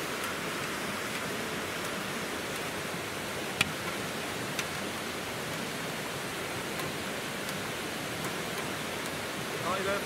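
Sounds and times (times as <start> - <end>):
stream flowing over stones: 0.0 - 10.0.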